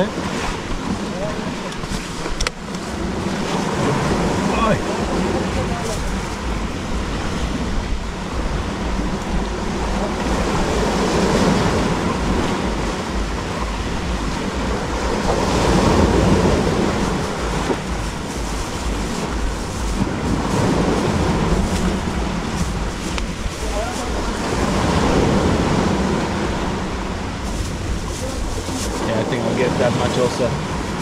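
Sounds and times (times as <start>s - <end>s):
sea surf washing on shore: 0.0s - 31.0s
wind buffeting microphone: 0.0s - 31.0s.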